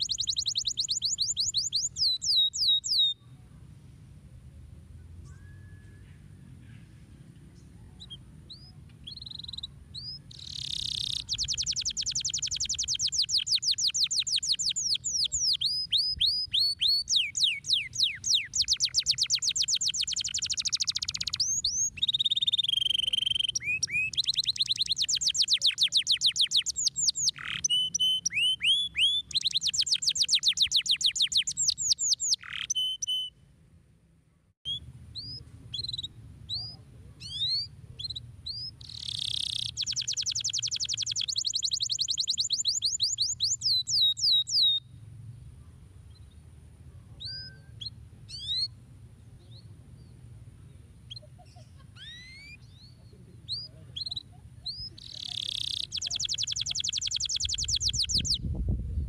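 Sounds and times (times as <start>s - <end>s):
canary chirps: 0.0s - 3.3s, 7.6s - 33.4s, 34.6s - 44.9s, 47.1s - 48.8s, 51.0s - 58.5s
canary singing trills: 0.0s - 3.3s, 7.6s - 33.3s, 34.7s - 45.0s, 47.1s - 50.2s, 51.0s - 58.5s.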